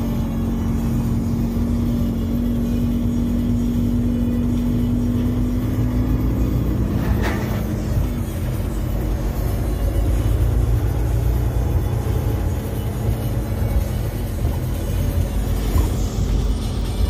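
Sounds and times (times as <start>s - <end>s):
low hum: 0.0s - 17.0s
truck engine and road drone: 0.0s - 17.0s.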